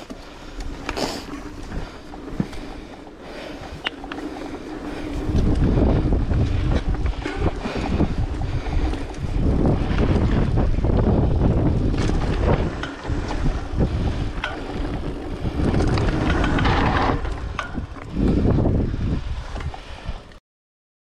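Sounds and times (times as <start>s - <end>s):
bike chain and parts rattling: 0.0s - 20.1s
wind buffeting microphone: 0.4s - 20.3s.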